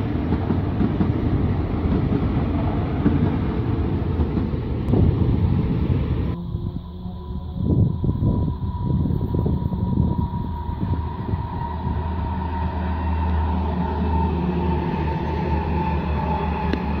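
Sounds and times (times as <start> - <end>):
wheels rumbling on rails: 0.0 - 6.4, 7.9 - 17.0.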